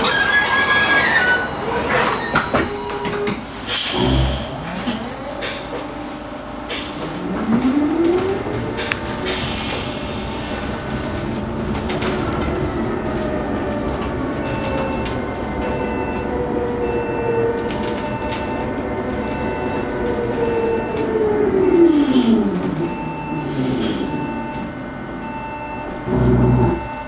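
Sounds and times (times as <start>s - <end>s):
electric bus motor whining: 0.0s - 27.0s.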